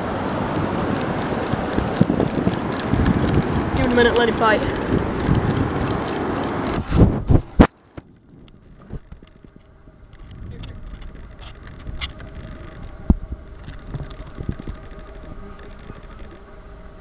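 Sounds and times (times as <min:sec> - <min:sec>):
boat low rumble: 0:00.0 - 0:17.0
faint steady hum: 0:00.0 - 0:17.0.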